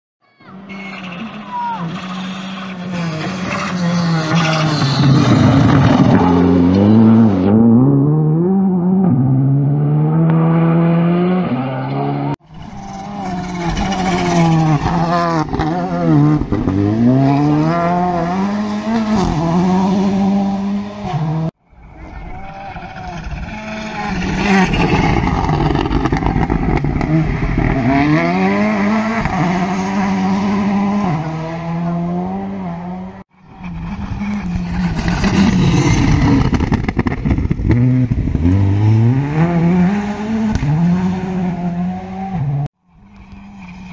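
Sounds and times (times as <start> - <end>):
gravel and tyre noise: 0.2 - 43.9
rally car engines revving: 0.4 - 43.9.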